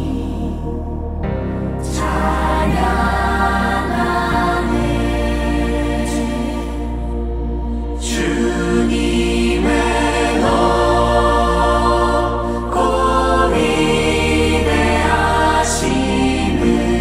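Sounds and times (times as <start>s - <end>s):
low bass pad: 0.0s - 17.0s
sustained synthesizer chords: 0.0s - 17.0s
woman and congregation singing: 1.9s - 6.8s, 8.0s - 17.0s.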